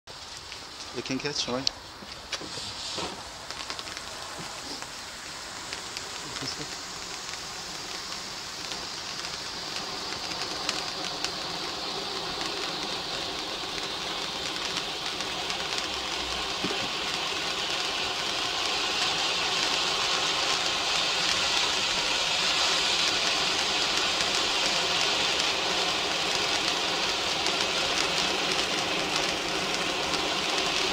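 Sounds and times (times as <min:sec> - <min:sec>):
firework crackles: 0:00.1 - 0:30.9
firework fountain hissing: 0:00.1 - 0:30.9.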